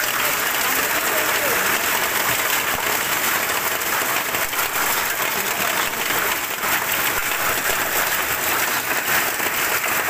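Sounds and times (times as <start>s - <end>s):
hailstones clattering: 0.0s - 10.0s.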